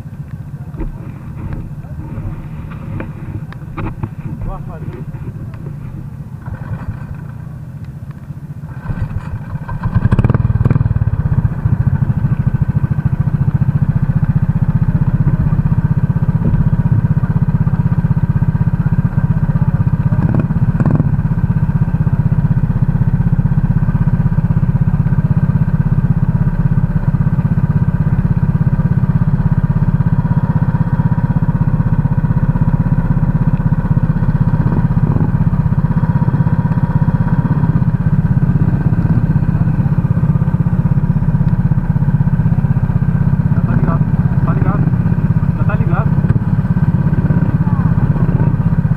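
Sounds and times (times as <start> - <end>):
go-kart engine: 0.0 - 48.9.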